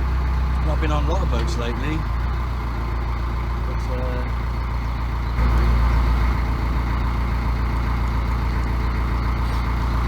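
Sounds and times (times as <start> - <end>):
boat diesel engine rumbling: 0.0 - 10.0.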